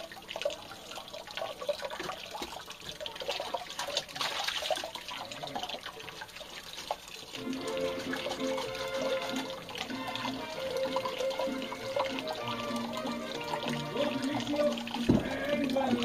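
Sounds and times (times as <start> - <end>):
water pouring from a bowl: 0.0 - 16.0
water splashing and trickling: 0.0 - 16.0.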